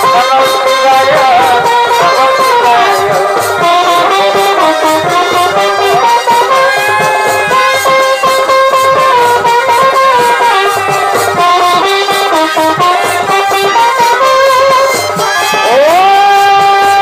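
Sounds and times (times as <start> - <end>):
regular drum beat: 0.0 - 17.0
wavering melody: 0.3 - 17.0.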